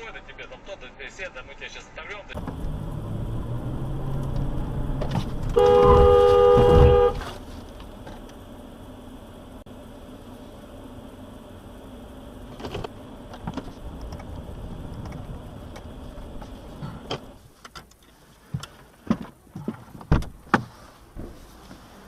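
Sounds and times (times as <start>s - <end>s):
car road and engine hum: 2.0s - 22.0s.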